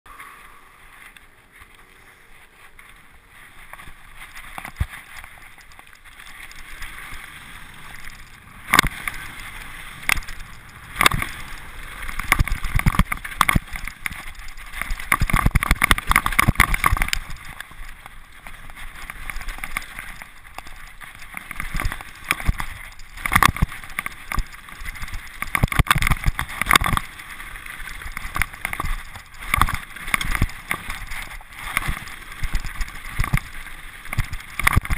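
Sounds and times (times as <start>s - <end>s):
bike tyres on loose stone: 0.1s - 34.9s
bike rattling and knocking: 3.4s - 34.9s.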